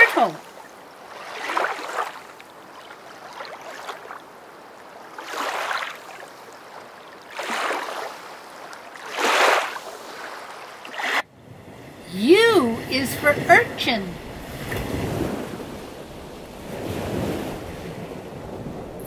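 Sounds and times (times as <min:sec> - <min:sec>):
water washing in swells: 0:00.0 - 0:19.0.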